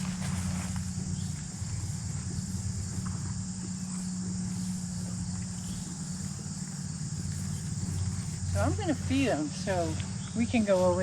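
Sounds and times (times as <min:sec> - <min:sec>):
crickets trilling: 0:00.0 - 0:11.0
steady low hum: 0:00.0 - 0:11.0.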